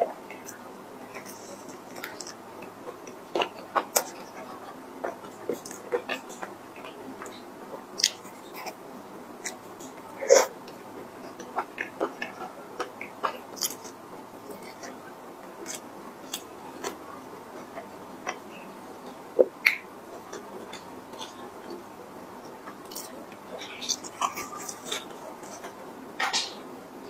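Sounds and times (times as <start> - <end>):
soft chewing: 0.0 - 26.7.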